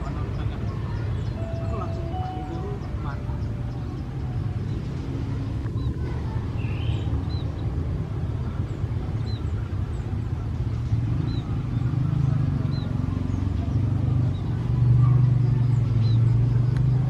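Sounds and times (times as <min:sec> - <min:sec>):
locomotive rumbling: 0:00.0 - 0:17.0.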